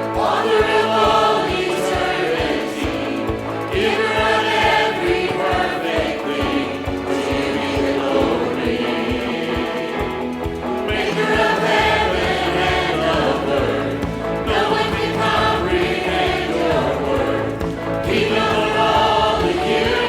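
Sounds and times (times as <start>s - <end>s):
choir singing gospel: 0.0s - 20.0s
instrumental accompaniment: 0.0s - 20.0s
steady low beat: 3.8s - 20.0s.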